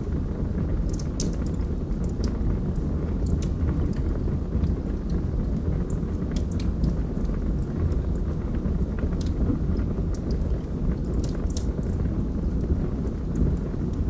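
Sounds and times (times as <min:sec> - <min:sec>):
burning logs crackling: 0:00.0 - 0:14.0.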